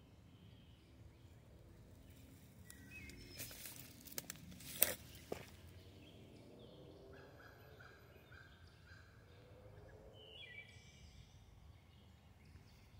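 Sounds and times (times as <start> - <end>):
faint birdsong: 0.0 - 12.9
outdoor background noise: 0.0 - 12.9.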